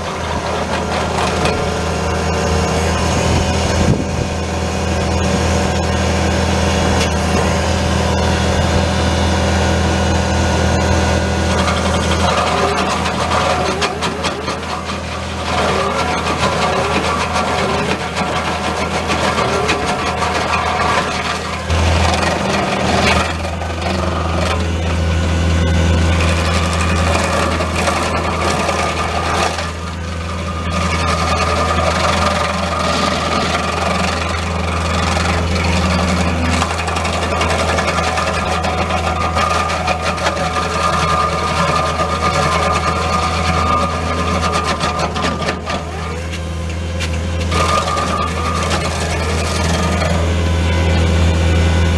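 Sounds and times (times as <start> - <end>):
diesel engine running: 0.0 - 51.9
stump grinder chewing stump: 0.0 - 51.9.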